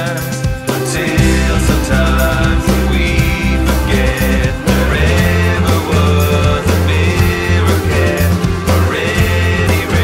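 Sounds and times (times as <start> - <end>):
song with held bass and chords: 0.0 - 10.0.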